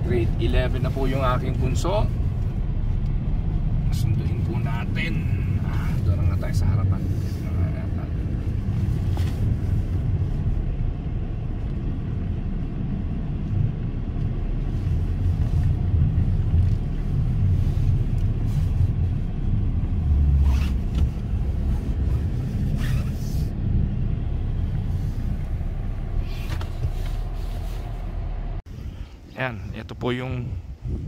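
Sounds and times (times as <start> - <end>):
engine and road noise rumble: 0.0 - 31.0.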